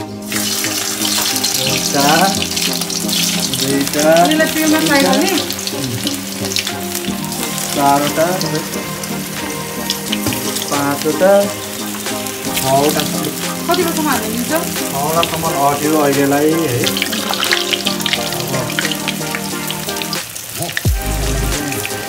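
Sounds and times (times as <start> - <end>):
background melody: 0.0 - 22.0
food sizzling in hot oil: 0.0 - 22.0.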